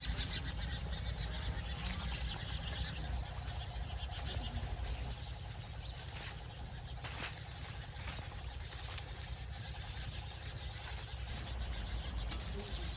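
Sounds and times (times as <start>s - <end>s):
bird chirps and calls: 0.0s - 12.9s
steady low rumble: 0.0s - 12.9s.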